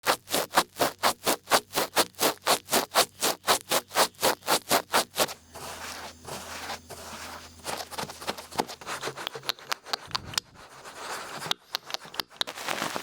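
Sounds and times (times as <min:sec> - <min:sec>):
ear pick scratching: 0:00.0 - 0:13.0
soft scratchy rustle: 0:00.0 - 0:13.0.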